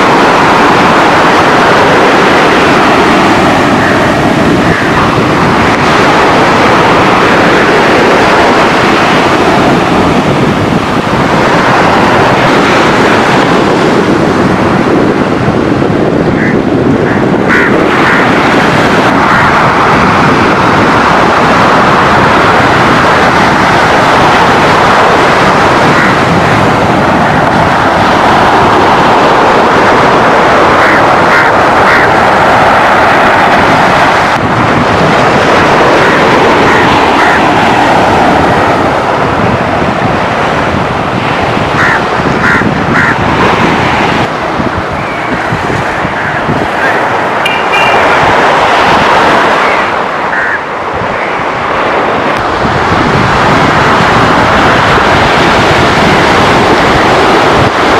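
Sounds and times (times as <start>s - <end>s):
waves breaking on beach: 0.0s - 57.9s
wind buffeting microphone: 0.0s - 57.9s.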